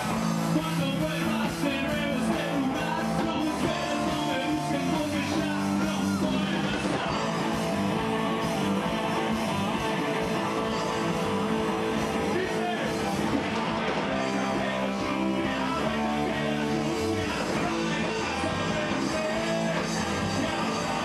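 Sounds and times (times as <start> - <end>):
electric guitar: 0.0 - 21.0
rock band playing live: 0.0 - 21.0.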